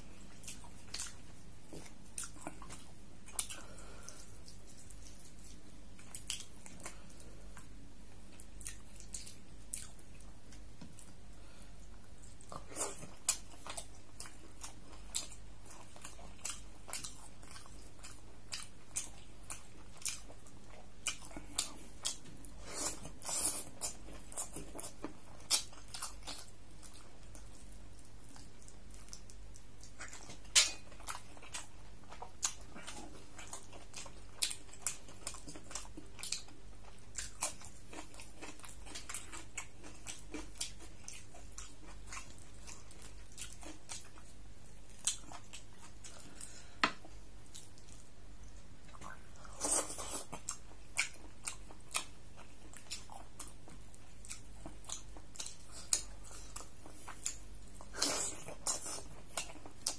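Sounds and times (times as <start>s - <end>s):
chewing and lip smacks: 0.2s - 7.7s, 8.3s - 11.2s, 11.8s - 59.9s.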